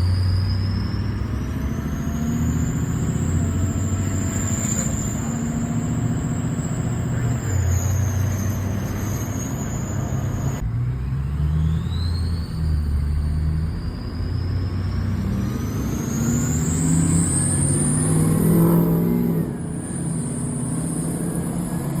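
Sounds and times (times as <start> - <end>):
deep diesel exhaust rumble: 0.0 - 22.0
high turbo whistle: 0.0 - 22.0.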